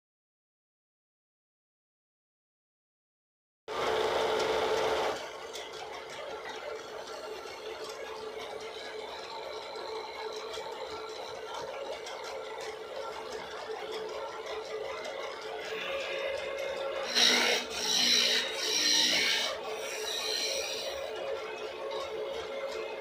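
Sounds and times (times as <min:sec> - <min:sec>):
lathe electric motor humming: 0:03.7 - 0:23.0.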